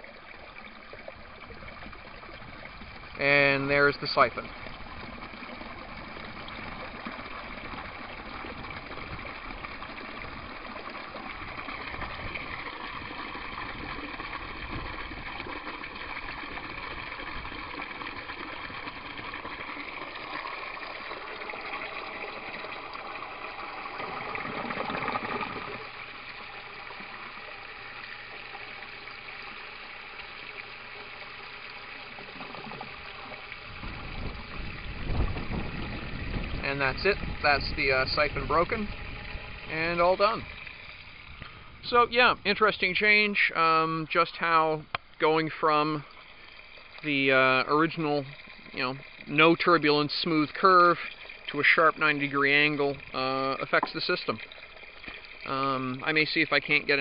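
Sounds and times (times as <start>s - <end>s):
water gushing into a tub: 0.0s - 57.0s.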